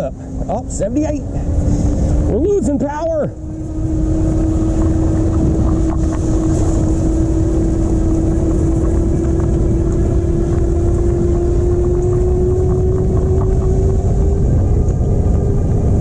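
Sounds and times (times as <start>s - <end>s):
wind and road rumble: 0.0s - 16.0s.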